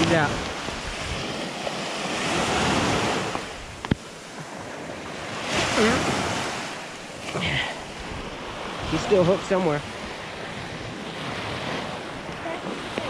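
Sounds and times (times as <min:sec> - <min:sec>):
small waves washing ashore: 0:00.0 - 0:13.0
wind on microphone: 0:00.0 - 0:13.0.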